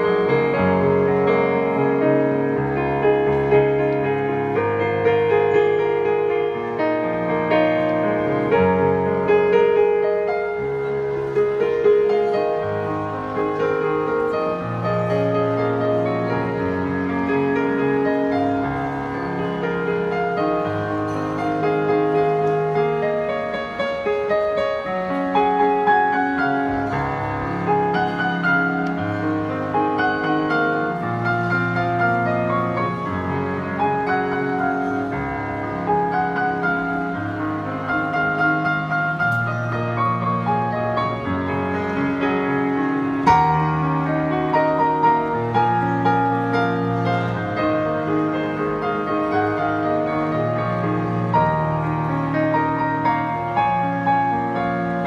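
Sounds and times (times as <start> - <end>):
slow piano music: 0.0 - 55.0.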